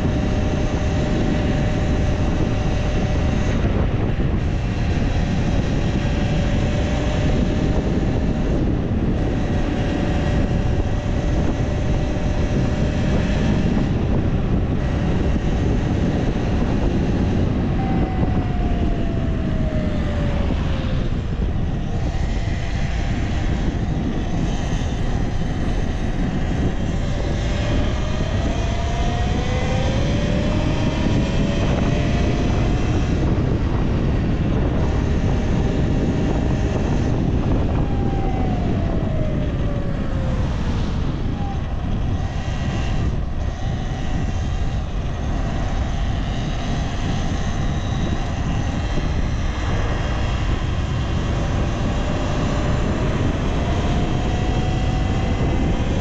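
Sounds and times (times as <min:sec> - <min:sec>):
electric motor whine: 0:00.0 - 0:56.0
wind noise: 0:00.0 - 0:56.0.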